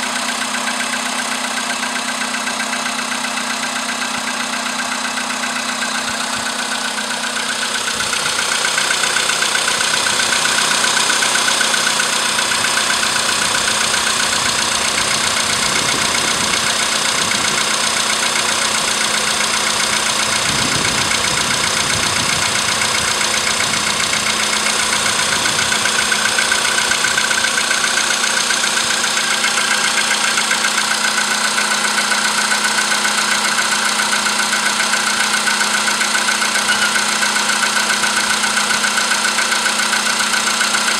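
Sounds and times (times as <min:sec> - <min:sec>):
car engine idling with knock: 0:00.0 - 0:40.9.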